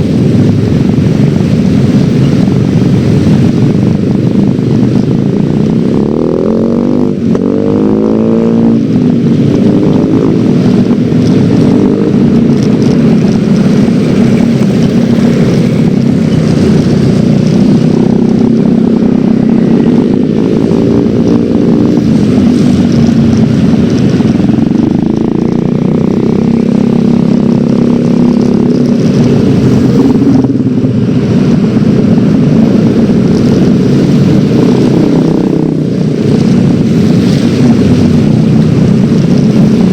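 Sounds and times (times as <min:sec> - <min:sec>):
scooter engine running: 0:00.0 - 0:39.9
wind noise on microphone: 0:00.0 - 0:39.9.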